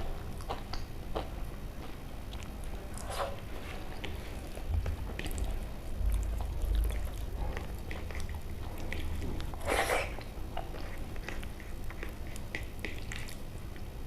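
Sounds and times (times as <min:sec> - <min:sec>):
wet chewing and mouth clicks: 0:00.0 - 0:13.9.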